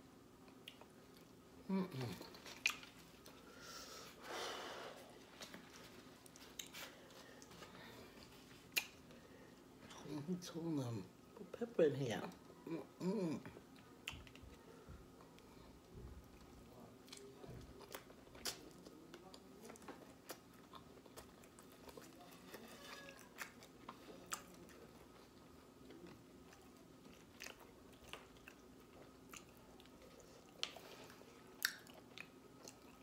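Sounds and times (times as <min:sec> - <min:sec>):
person chewing with wet smacks: 0:00.4 - 0:03.4, 0:05.3 - 0:09.2, 0:13.4 - 0:33.0.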